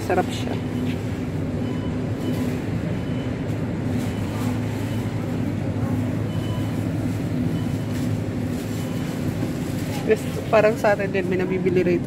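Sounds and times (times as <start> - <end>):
refrigeration hum: 0.0 - 12.0.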